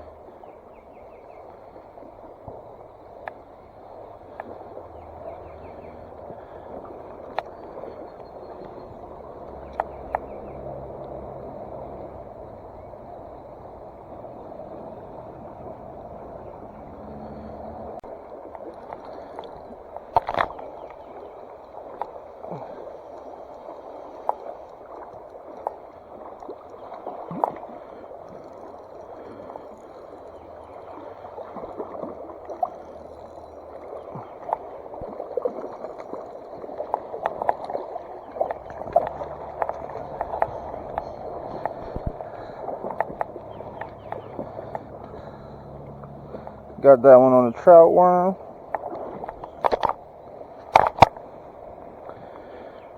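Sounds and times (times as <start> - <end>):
stream running and gurgling: 0.0 - 52.9
small splashes: 1.4 - 52.9.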